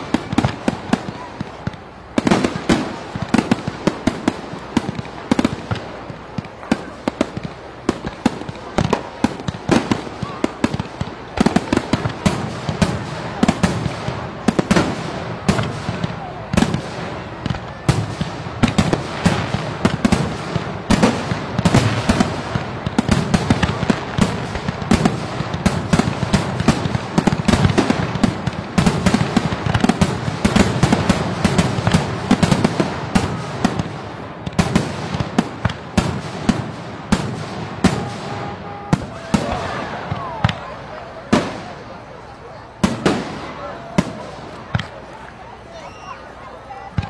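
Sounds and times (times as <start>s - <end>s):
fireworks banging and crackling: 0.0s - 47.0s.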